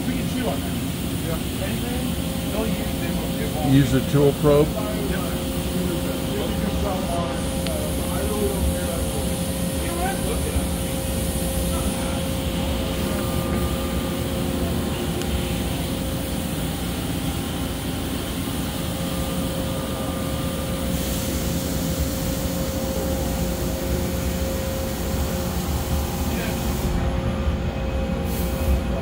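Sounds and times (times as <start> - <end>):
machine hum with whine: 0.0 - 29.0.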